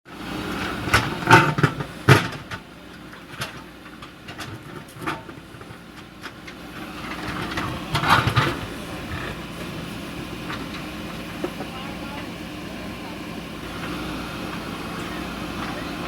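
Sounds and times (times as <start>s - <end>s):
diesel engine running: 0.1s - 16.0s.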